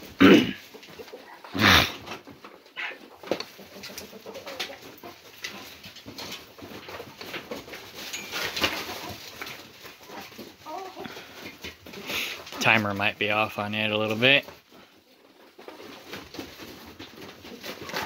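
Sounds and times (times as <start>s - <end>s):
chickens clucking softly: 0.0s - 18.0s
chicken feet scuffing litter: 0.6s - 18.0s.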